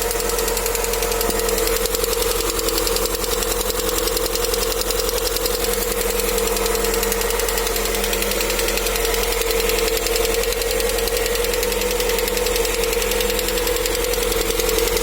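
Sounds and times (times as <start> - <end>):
car engine running: 0.0 - 15.0
fast even engine knocking: 0.0 - 15.0.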